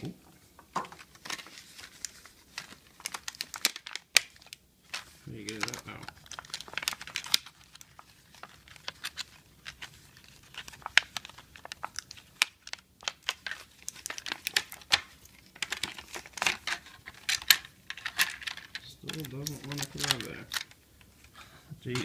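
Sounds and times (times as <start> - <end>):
plastic packaging crinkling: 0.8 - 21.3.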